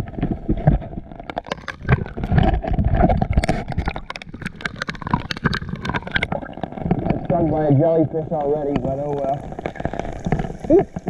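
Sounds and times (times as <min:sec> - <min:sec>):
churning water rumble: 0:00.0 - 0:11.0.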